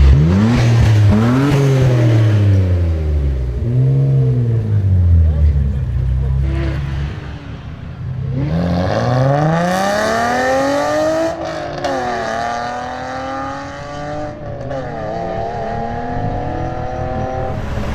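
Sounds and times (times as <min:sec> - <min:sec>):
sports car engine accelerating: 0:00.0 - 0:17.9.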